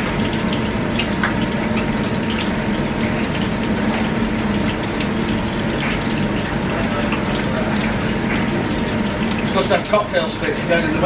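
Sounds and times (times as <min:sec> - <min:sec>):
oil bubbling and sizzling: 0:00.0 - 0:11.0.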